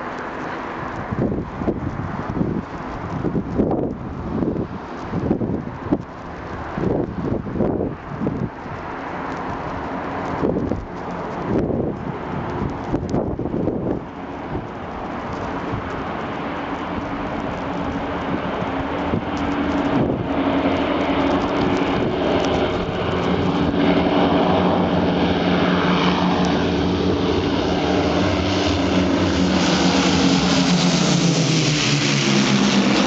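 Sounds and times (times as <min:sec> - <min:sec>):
piston aircraft engines roaring: 0:00.0 - 0:33.0.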